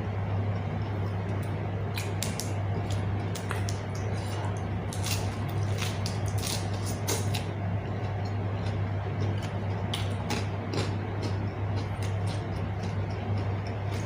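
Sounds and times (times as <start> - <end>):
low hum: 0.0 - 14.0
wet chewing crunches: 1.9 - 14.0.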